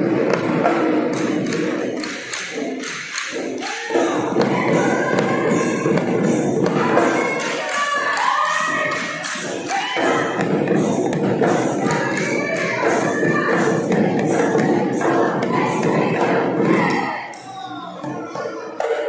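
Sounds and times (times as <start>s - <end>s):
dhol drums beating: 0.0s - 17.3s
group of voices singing: 3.7s - 19.0s.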